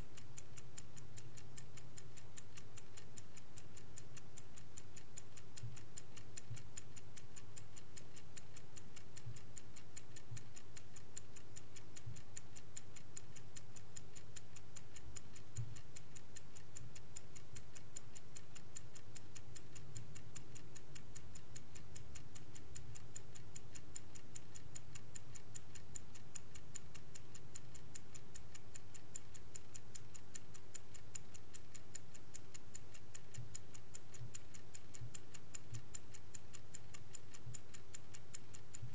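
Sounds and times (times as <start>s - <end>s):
mechanical clock ticking: 0.0s - 38.9s.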